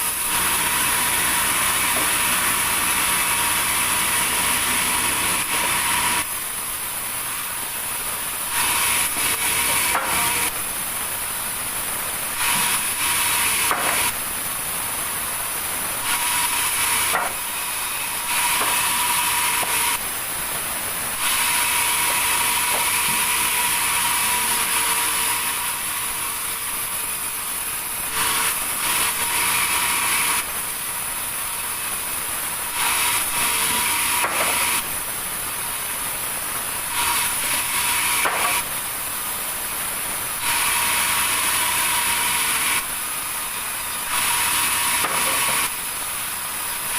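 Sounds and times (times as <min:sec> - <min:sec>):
sawmill saw cutting wood: 0:00.0 - 0:46.9.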